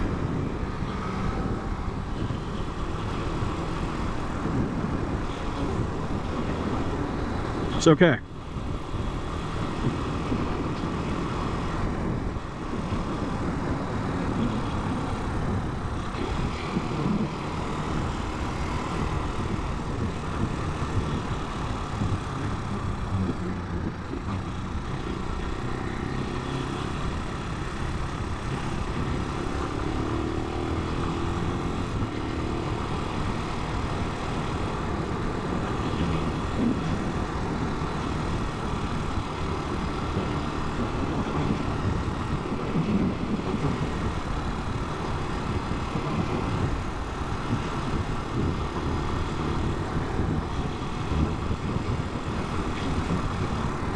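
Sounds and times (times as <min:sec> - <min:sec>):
motorcycle engine running: 0:00.0 - 0:53.9
road noise: 0:00.0 - 0:53.9.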